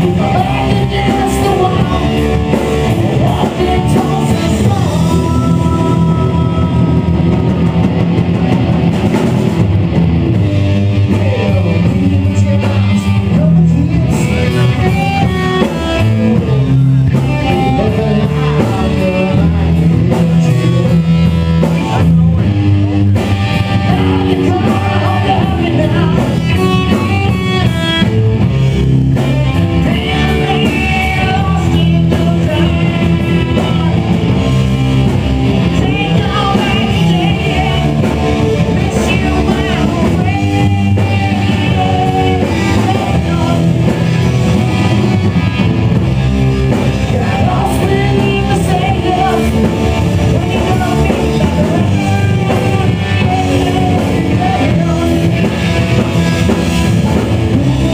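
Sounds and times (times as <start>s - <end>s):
person singing: 0.0s - 8.4s, 9.1s - 57.9s
bass guitar: 0.0s - 57.9s
drums: 0.0s - 57.9s
electric guitar: 0.0s - 57.9s.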